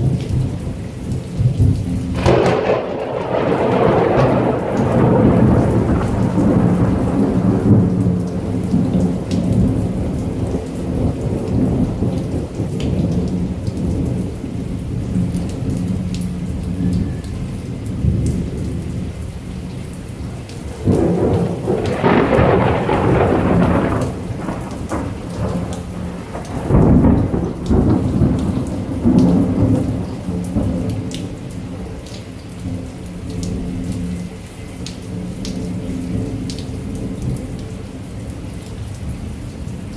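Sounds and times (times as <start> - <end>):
thunder rumbling: 0.0 - 34.3
heavy rain: 0.0 - 39.9.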